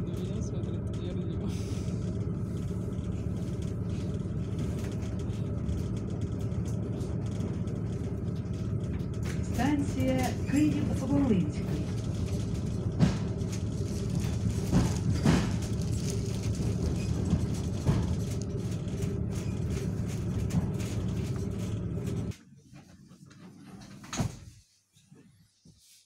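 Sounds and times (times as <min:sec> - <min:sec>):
train interior rumble and hum: 0:00.0 - 0:24.6.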